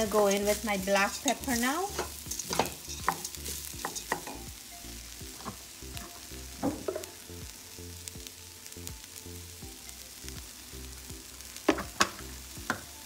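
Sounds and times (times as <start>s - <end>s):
light sizzle: 0.0s - 13.0s.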